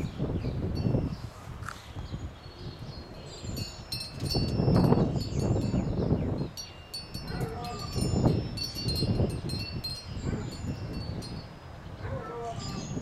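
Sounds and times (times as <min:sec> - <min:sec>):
wind gusting on microphone: 0:00.0 - 0:13.0
wind chimes ringing: 0:02.4 - 0:13.0.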